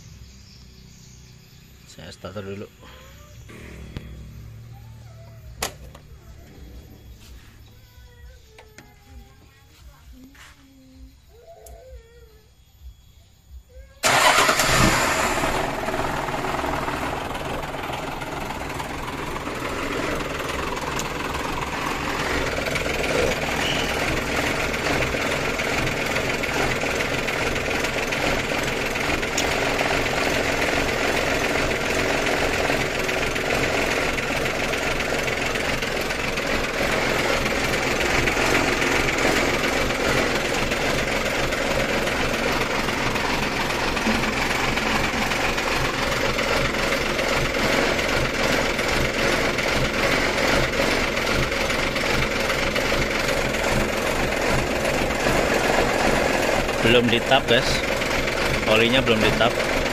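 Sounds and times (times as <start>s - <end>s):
diesel truck engine running: 0.0s - 11.1s, 14.0s - 59.9s.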